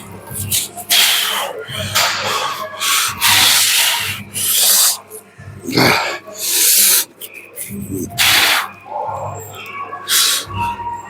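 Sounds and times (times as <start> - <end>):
person breathing hard: 0.1 - 8.8, 10.1 - 10.7.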